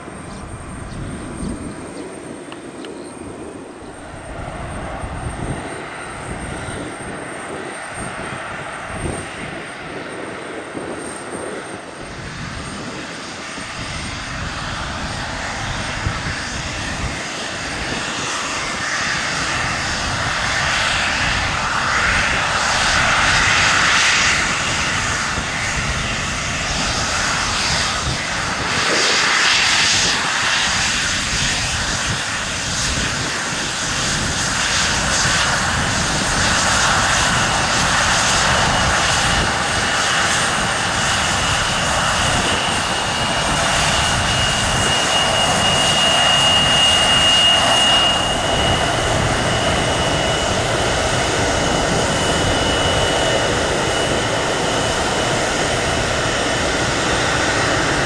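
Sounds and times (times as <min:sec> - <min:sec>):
jet engines rushing: 0:00.0 - 0:58.0.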